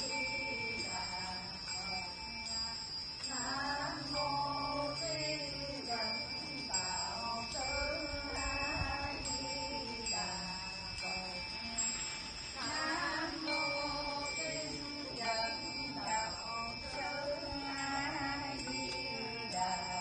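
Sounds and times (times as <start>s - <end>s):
thin high tone: 0.0s - 20.0s.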